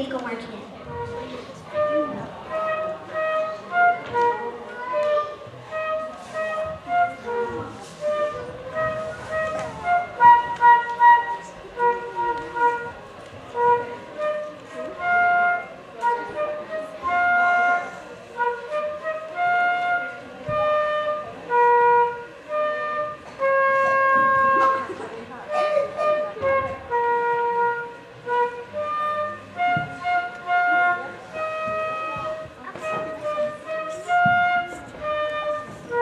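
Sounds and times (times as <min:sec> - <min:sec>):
solo flute melody: 0:00.8 - 0:36.0.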